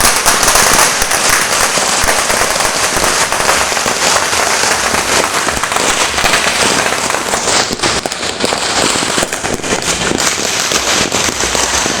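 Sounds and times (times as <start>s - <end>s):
firecrackers crackling and banging: 0.0s - 12.0s.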